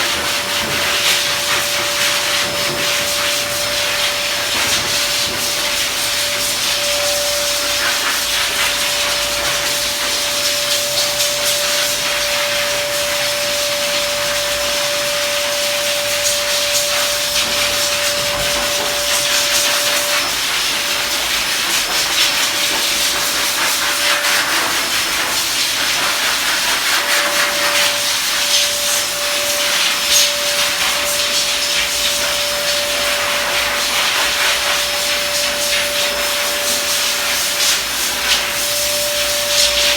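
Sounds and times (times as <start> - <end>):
blow dryer rushing air: 0.0 - 39.9
blow dryer whine: 0.0 - 39.9.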